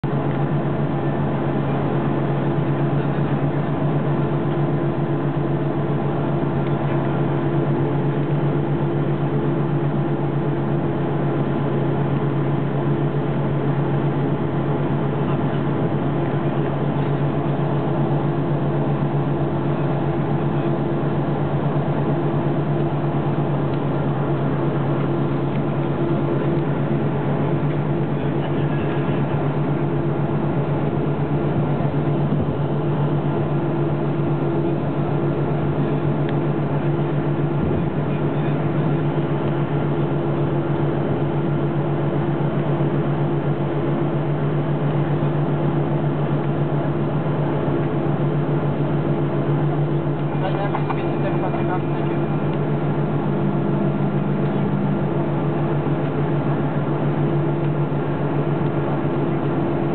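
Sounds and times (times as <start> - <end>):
airliner cabin engine drone: 0.0 - 59.9.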